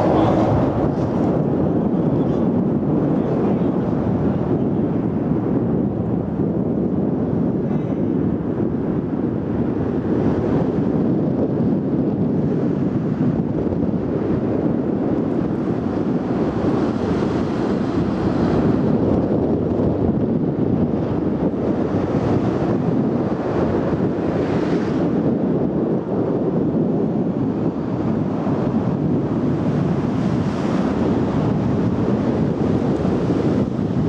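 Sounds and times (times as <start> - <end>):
wind blowing on microphone: 0.0 - 34.0.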